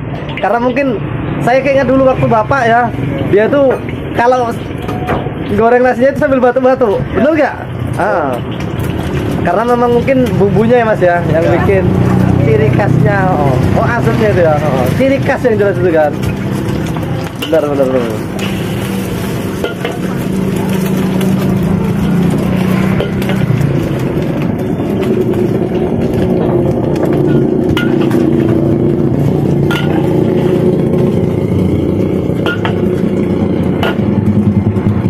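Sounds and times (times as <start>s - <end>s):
road traffic engine hum: 0.0s - 35.0s.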